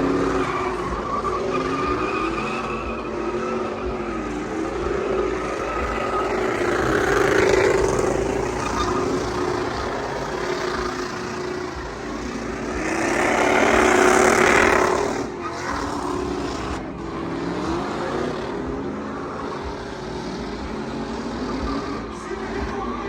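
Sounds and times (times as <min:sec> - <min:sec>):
vehicle engines revving: 0:00.0 - 0:23.0
vehicle passing by: 0:00.0 - 0:23.0.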